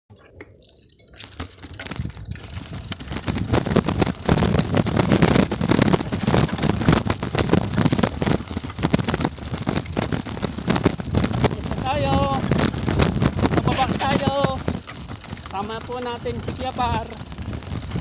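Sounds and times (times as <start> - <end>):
bicycle rattling over rough trail: 0.5 - 18.0.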